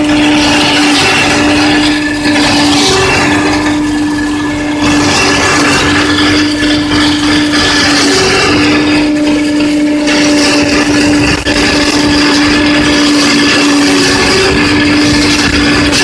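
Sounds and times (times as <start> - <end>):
forage harvester droning: 0.0 - 16.0.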